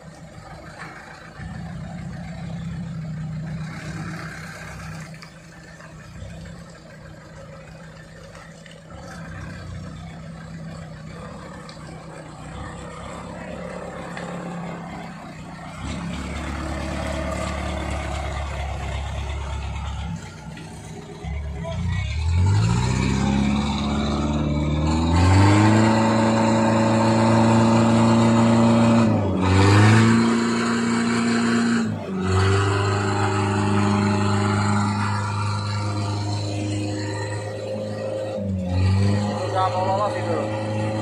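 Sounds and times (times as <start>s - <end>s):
truck engines running: 0.0s - 41.0s
truck passing close by: 0.0s - 41.0s.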